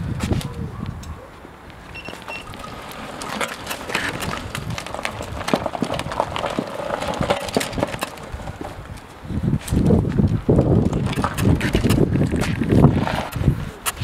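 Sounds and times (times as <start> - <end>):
go-kart rattling over pavement: 1.8 - 14.0.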